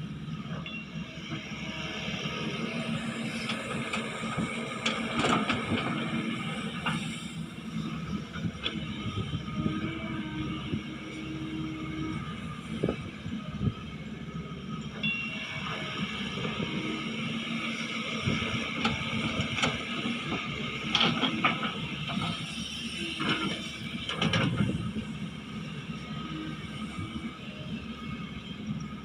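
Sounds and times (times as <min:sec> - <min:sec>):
excavator engine drone: 0:00.0 - 0:29.0.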